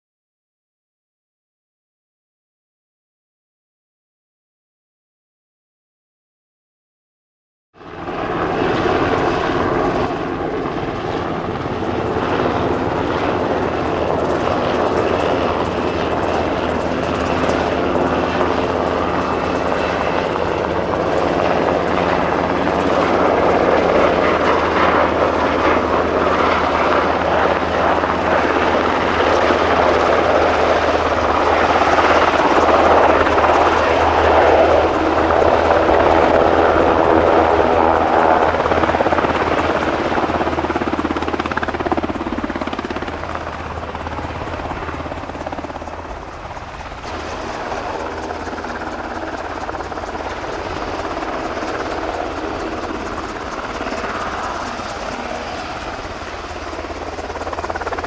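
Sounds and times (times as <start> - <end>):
helicopter flying: 7.8 - 58.0.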